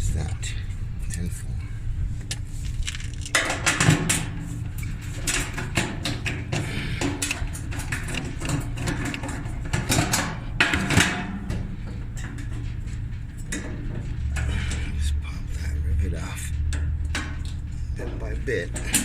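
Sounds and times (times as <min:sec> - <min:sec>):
low steady hum: 0:00.0 - 0:19.0
wrench clicking and scraping metal: 0:02.2 - 0:15.1, 0:16.4 - 0:19.0.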